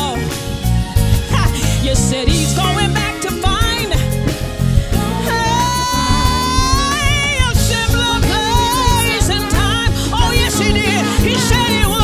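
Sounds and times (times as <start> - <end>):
live soul band playing: 0.0 - 12.0
women singing: 1.3 - 4.2, 4.9 - 12.0.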